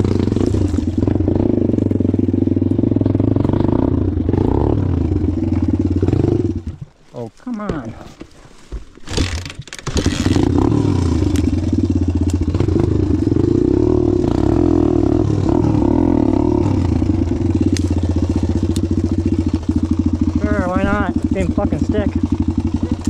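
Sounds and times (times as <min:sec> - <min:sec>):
dirt bike engine starting and running: 0:00.0 - 0:07.0, 0:08.9 - 0:23.0.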